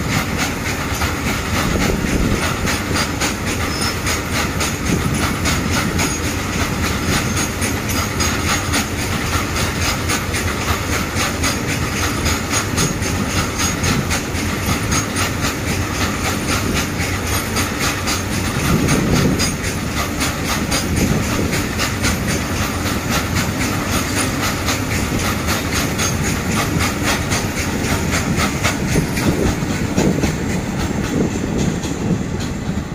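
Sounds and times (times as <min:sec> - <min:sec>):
wheels clicking over rail joints: 0:00.0 - 0:32.9
wheels rumbling on rail: 0:00.0 - 0:32.9.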